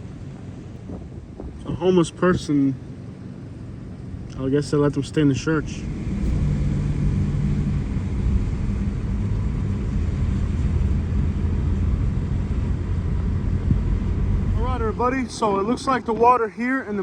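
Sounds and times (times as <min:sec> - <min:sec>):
car engine rumble: 0:00.0 - 0:17.0
faint hum: 0:00.0 - 0:17.0
road noise: 0:00.0 - 0:17.0.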